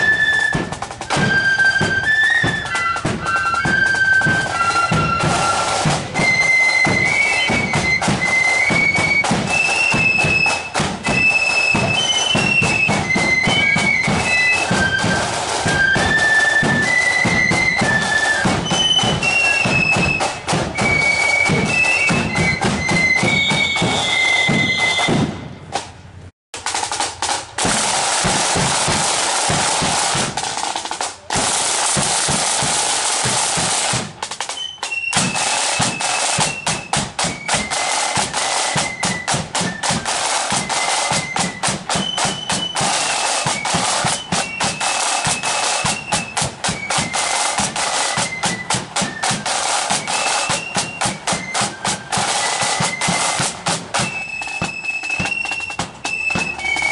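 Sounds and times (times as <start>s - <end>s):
flute melody: 0.0s - 25.7s, 28.0s - 56.9s
snare drum rolls: 0.0s - 56.9s.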